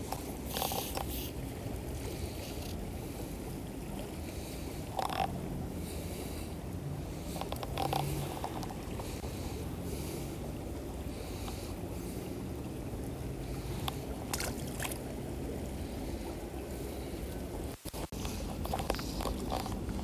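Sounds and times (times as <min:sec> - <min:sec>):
creek rushing: 0:00.0 - 0:20.0.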